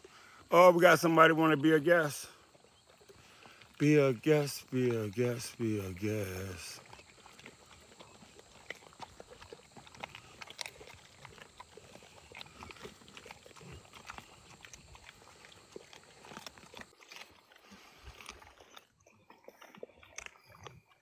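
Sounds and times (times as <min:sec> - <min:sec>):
dogs chewing and crunching: 0:00.0 - 0:21.0.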